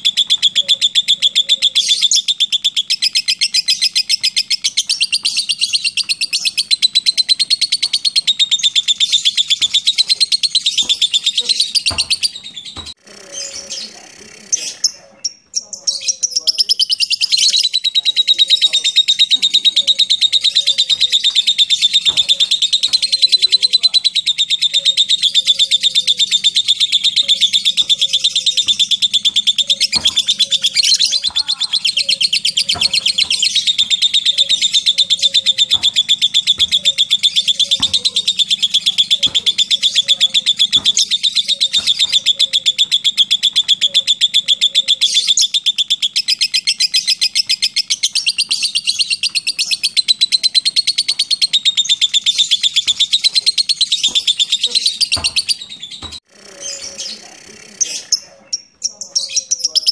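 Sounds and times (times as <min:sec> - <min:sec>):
bird chattering trill: 0:00.0 - 0:59.9.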